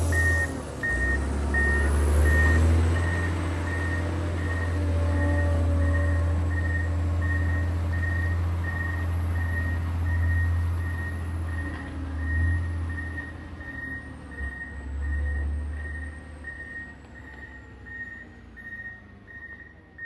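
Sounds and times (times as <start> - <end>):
diesel engine under load: 0.0 - 20.0
reversing alarm beeping: 0.0 - 20.0.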